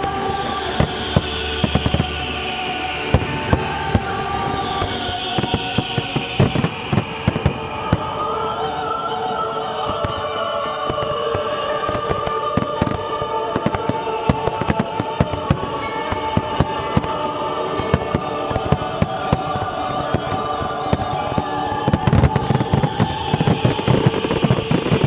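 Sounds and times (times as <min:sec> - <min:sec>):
fireworks low booms: 0:00.0 - 0:02.3, 0:03.1 - 0:08.2, 0:10.9 - 0:25.0
fireworks popping and crackling: 0:00.0 - 0:02.4, 0:03.1 - 0:08.2, 0:10.9 - 0:25.0
loud show music with choir: 0:00.0 - 0:25.0.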